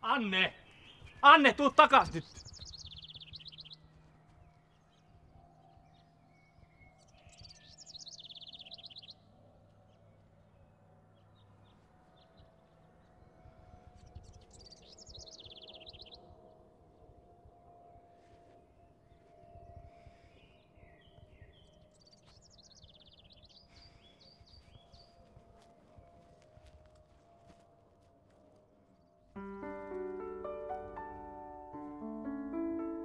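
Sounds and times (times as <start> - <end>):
songbird singing: 0.0 - 17.1, 18.2 - 26.7, 29.0 - 33.0.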